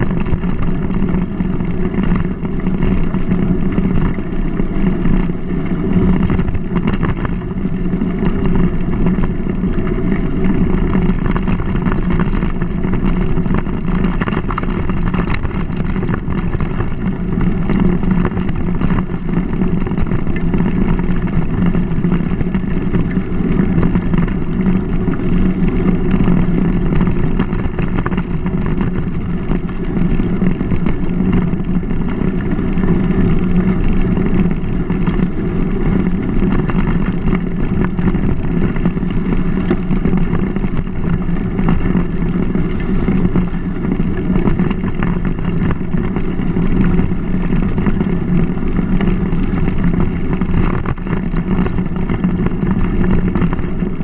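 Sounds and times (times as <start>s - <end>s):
bike tyres rolling on dirt: 0.0s - 54.0s
wind on microphone: 0.0s - 54.0s.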